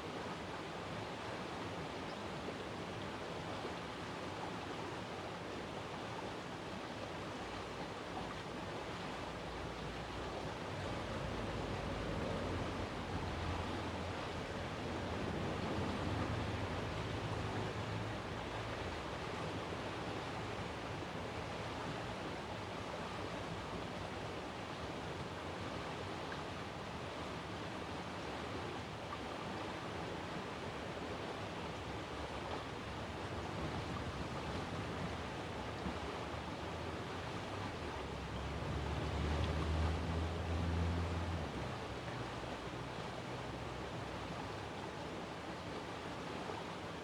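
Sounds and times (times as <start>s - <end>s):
outdoor background noise: 0.0s - 47.0s.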